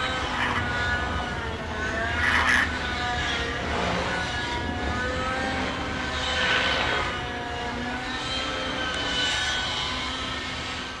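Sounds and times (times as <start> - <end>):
model helicopter engine high revs: 0.0 - 11.0
rotor blades whirring: 0.0 - 11.0.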